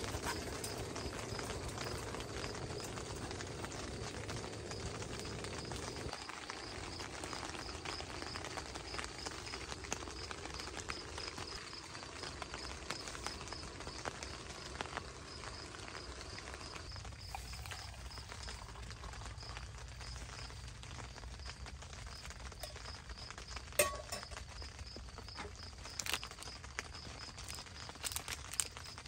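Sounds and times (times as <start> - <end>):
light rain pattering on tent: 0.0 - 29.0.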